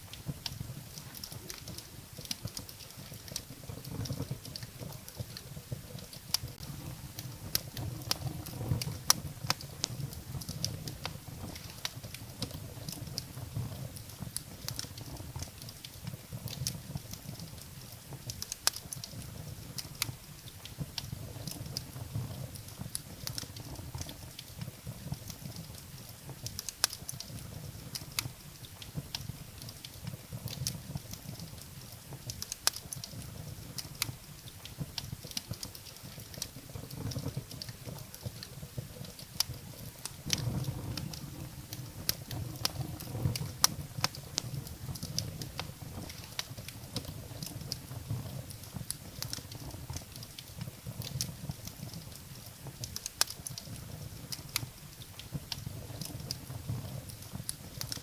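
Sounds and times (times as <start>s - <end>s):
burning logs crackling and popping: 0.0s - 58.0s
fire flames rumbling: 0.0s - 58.0s.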